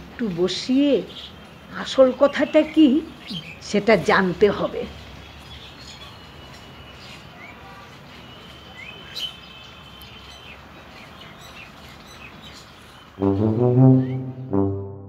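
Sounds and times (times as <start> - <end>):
small birds chirping: 0.2 - 13.3.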